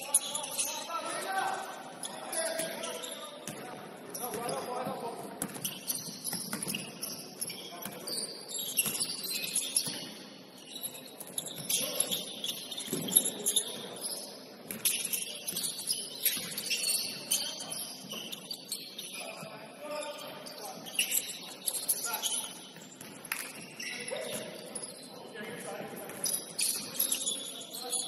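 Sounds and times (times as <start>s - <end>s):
shoes squeaking on wooden court: 0.0s - 28.0s.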